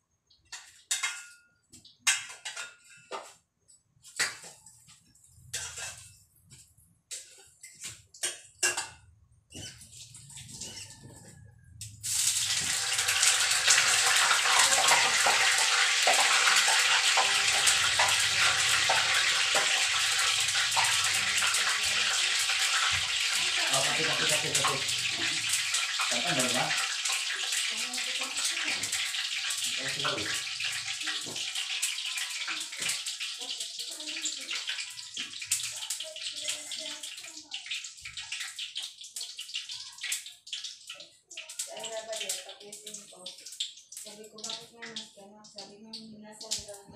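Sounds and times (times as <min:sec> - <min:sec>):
food sizzling in oil: 0:04.2 - 0:46.9.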